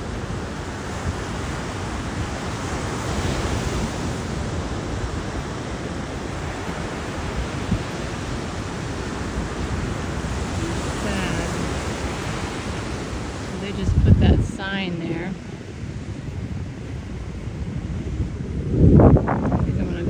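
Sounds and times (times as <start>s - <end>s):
ocean surf on a beach: 0.0s - 20.0s
wind on the microphone: 0.0s - 20.0s.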